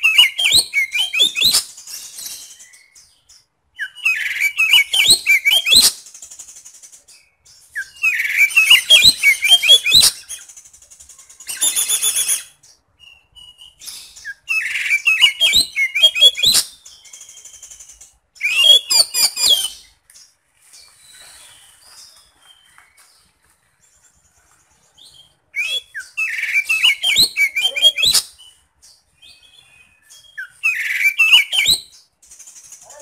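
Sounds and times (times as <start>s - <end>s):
songbird singing rapid phrases: 0.0s - 33.0s.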